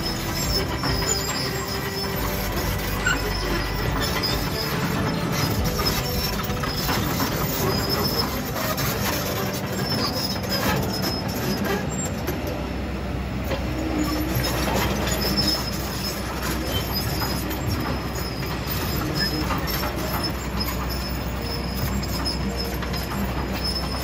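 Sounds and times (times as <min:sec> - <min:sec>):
short high squeals: 0:00.0 - 0:12.3, 0:14.0 - 0:24.0
excavator engine rumbling: 0:00.0 - 0:24.0.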